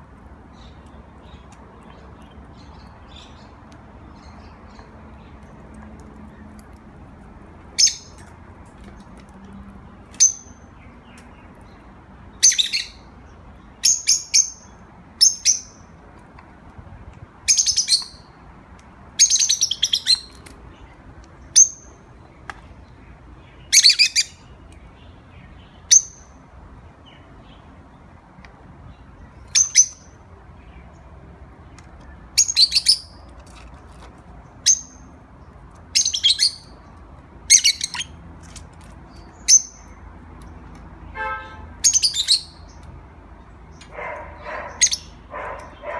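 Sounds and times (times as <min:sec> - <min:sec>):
pet birds chirping: 0:00.2 - 0:45.9.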